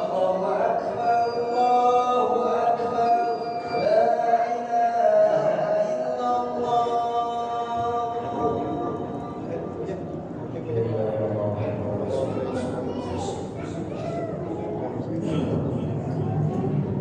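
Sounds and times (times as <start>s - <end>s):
man chanting recitation: 0.0s - 13.7s.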